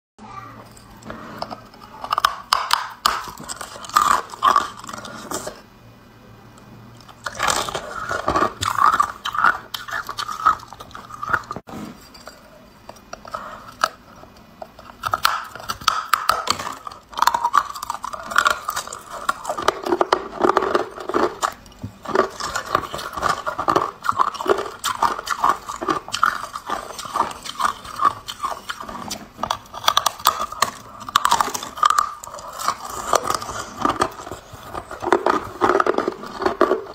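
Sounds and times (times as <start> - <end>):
ice crunching between teeth: 1.5 - 5.6, 7.0 - 11.7, 12.9 - 36.9.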